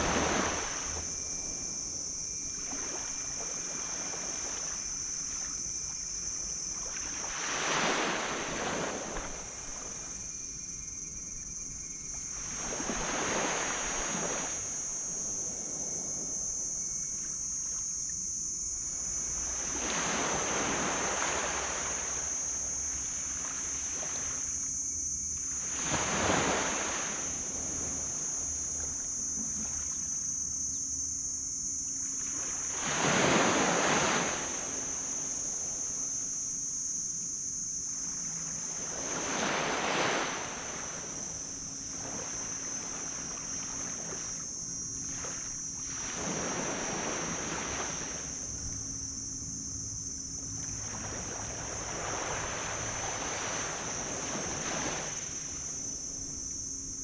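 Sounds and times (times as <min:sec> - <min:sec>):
small waves washing on beach: 0:00.0 - 0:10.2, 0:12.2 - 0:16.6, 0:18.8 - 0:24.7, 0:25.5 - 0:30.0, 0:32.1 - 0:36.1, 0:38.1 - 0:48.6, 0:50.2 - 0:56.7
high-pitched insect drone: 0:00.0 - 0:57.0.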